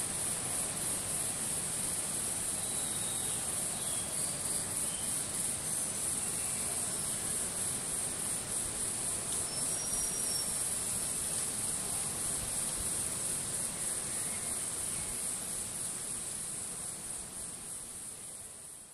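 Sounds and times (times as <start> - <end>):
high-pitched insect chorus: 0.0 - 18.9.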